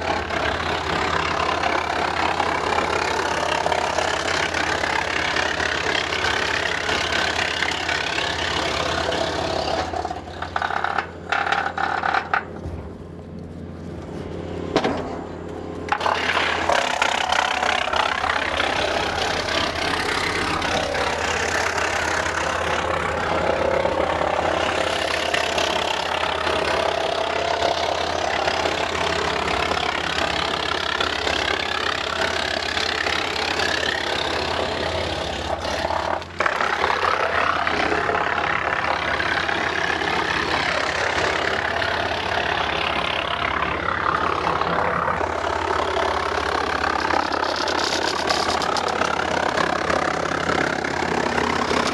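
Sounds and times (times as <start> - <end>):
wood chipper mechanical drone: 0.0 - 51.9.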